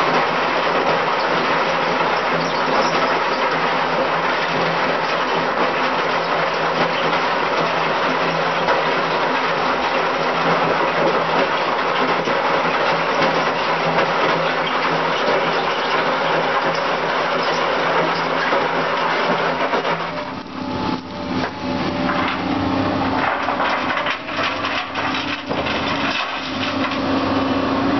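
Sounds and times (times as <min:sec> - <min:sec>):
gravel pouring: 0:00.0 - 0:27.9
crusher crushing stone: 0:00.2 - 0:27.2.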